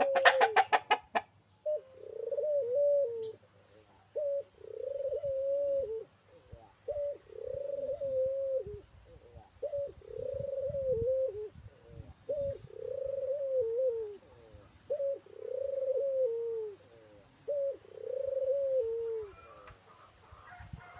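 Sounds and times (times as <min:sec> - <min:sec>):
small birds chirping: 0:00.0 - 0:08.2, 0:11.2 - 0:20.6
dove cooing: 0:00.0 - 0:20.9.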